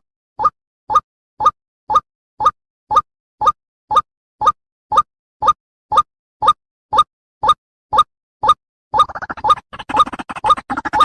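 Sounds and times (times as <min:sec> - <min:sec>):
looped plopping blip: 0:00.4 - 0:11.0.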